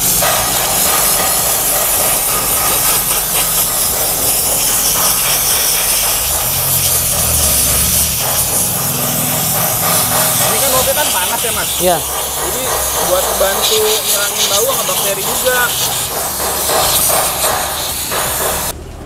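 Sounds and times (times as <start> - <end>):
steam cleaner hissing: 0.0 - 18.8.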